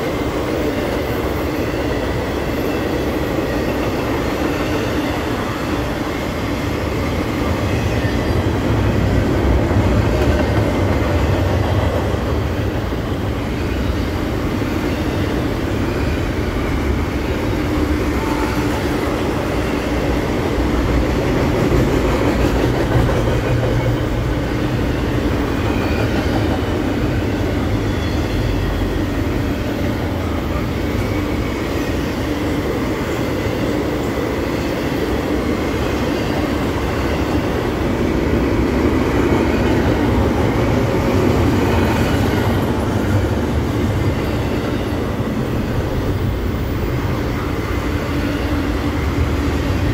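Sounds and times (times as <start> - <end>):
freight train wheels on rails: 0.0 - 49.9.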